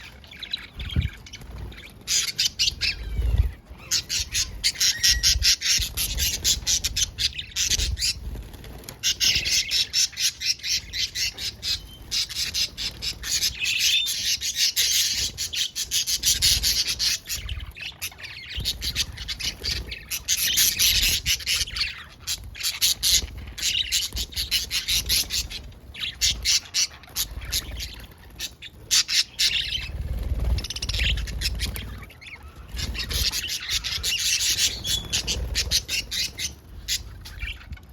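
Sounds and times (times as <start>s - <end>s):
parrots squawking: 0.0s - 8.2s, 9.0s - 37.9s.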